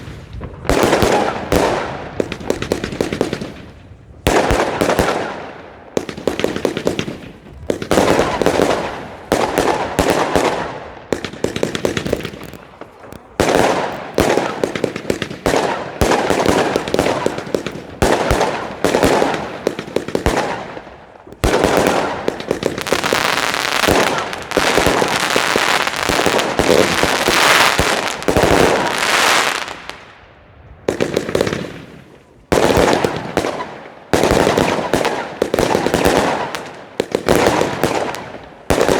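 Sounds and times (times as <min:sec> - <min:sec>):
fireworks banging and crackling: 0:00.0 - 0:38.9.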